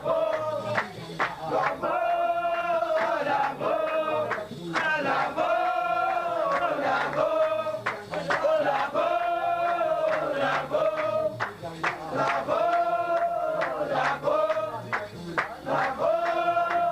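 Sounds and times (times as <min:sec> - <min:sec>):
male chorus chanting: 0:00.0 - 0:16.9.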